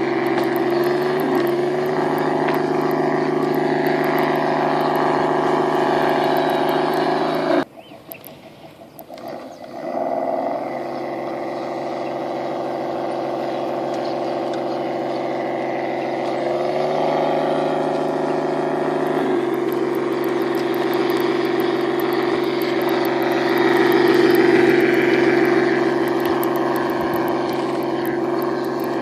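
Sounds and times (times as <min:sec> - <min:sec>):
electric motors whining: 0:00.0 - 0:08.3, 0:09.0 - 0:29.0.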